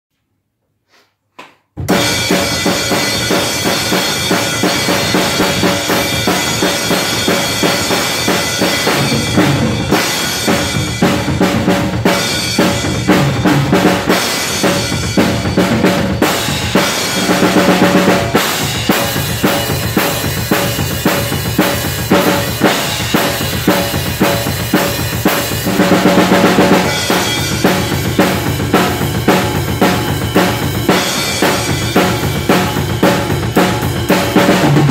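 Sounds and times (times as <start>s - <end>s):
drum kit groove: 1.8s - 34.9s.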